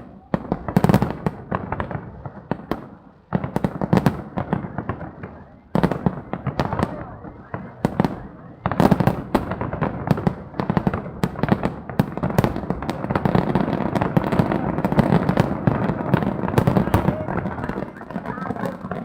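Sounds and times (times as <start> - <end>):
fireworks crackling pops: 0.0 - 19.0.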